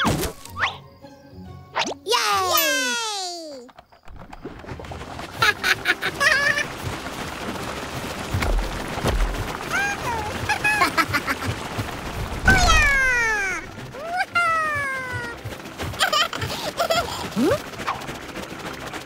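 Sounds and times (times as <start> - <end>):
propeller whirring: 3.6 - 19.0.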